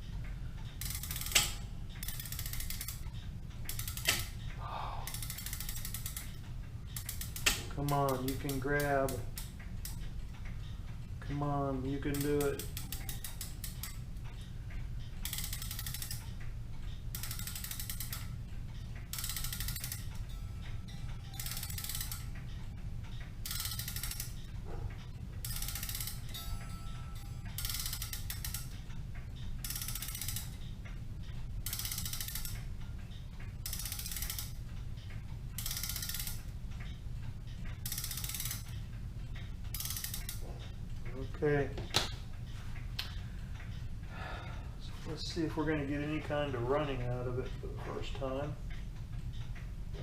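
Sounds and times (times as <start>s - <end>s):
clock key winding ratchet clicks: 0.0s - 41.8s.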